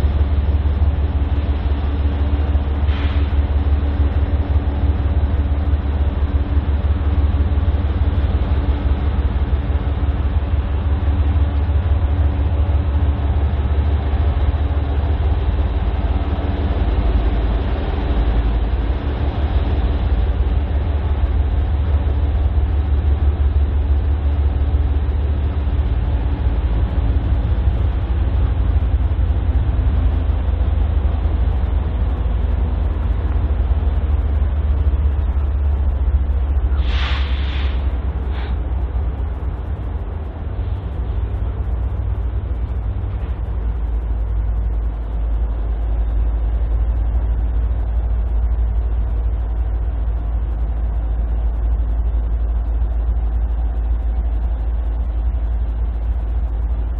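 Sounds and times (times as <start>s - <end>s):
freight train rumbling past: 0.0s - 48.3s.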